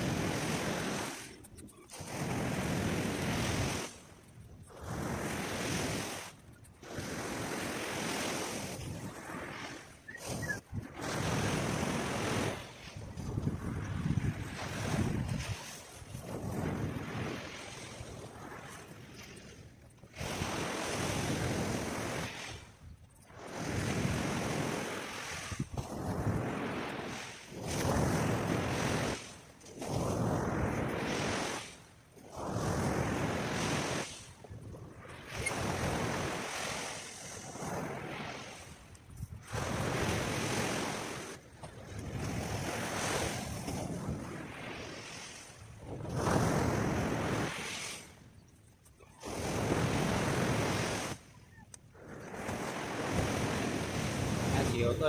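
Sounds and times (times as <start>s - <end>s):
surf washing: 0.0s - 48.3s, 49.0s - 51.3s, 52.0s - 55.0s
wind gusting on microphone: 4.7s - 19.2s, 20.1s - 29.2s, 32.3s - 48.0s, 49.1s - 55.0s.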